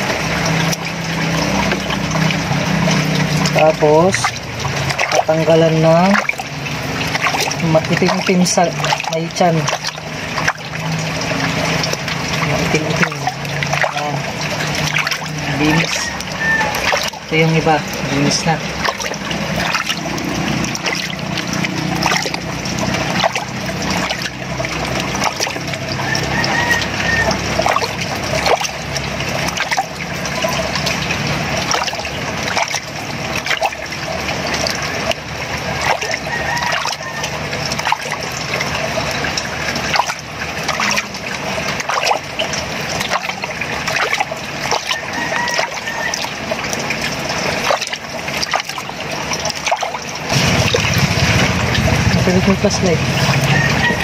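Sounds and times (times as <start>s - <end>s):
water splashing in a basin: 0.0s - 54.0s.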